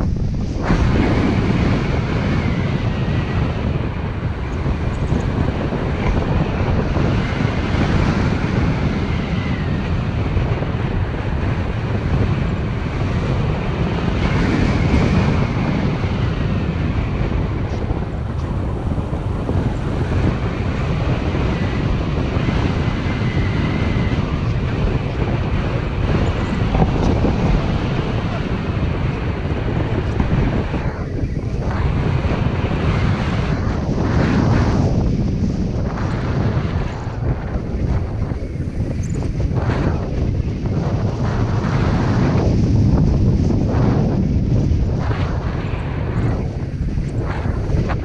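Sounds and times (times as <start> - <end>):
wind rushing over microphone: 0.0 - 48.0.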